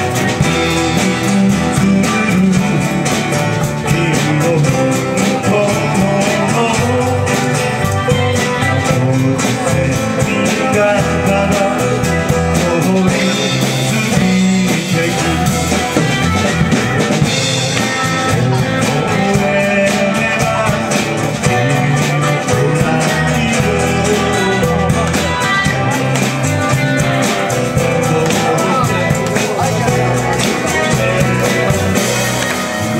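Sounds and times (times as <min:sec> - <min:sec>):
acoustic guitar: 0:00.0 - 0:32.9
drum kit: 0:00.0 - 0:32.9
electric bass: 0:00.0 - 0:32.9
keyboard: 0:00.0 - 0:32.9
voices singing: 0:00.0 - 0:32.9.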